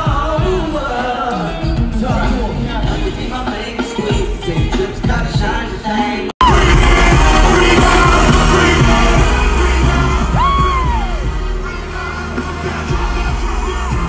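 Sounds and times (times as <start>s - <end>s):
live concert music with bass: 0.0s - 14.0s
person singing: 0.0s - 14.0s.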